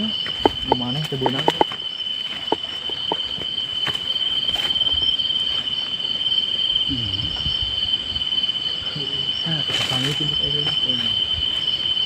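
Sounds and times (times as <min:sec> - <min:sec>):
crickets droning: 0:00.0 - 0:12.0
pulsing insect trill: 0:00.0 - 0:12.0.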